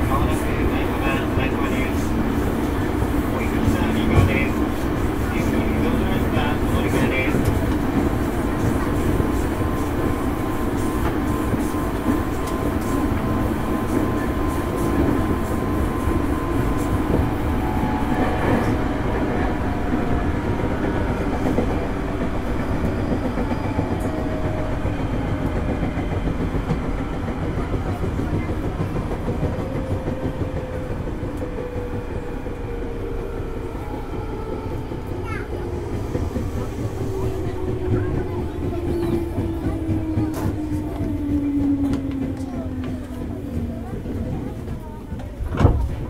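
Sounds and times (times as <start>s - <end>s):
clickety-clack over rail joints: 0.0s - 33.1s, 34.1s - 46.0s
wheel and rail rumble: 0.0s - 46.0s.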